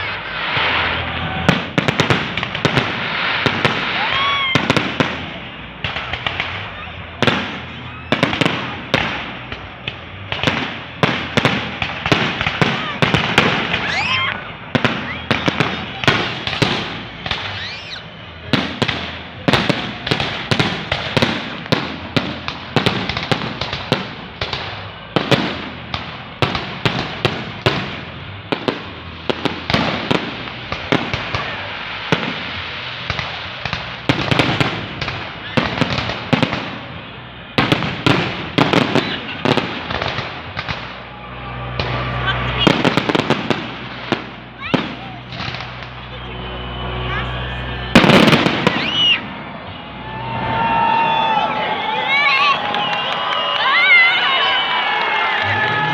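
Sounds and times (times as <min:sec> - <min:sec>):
fireworks bangs and crackling: 0:00.0 - 0:55.9
fireworks whistles: 0:00.0 - 0:55.9.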